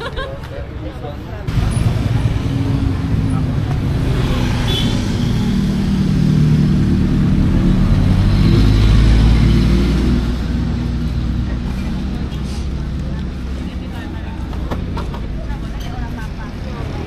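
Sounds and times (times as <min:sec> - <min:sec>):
vehicle engine rumbling: 0:01.0 - 0:17.0.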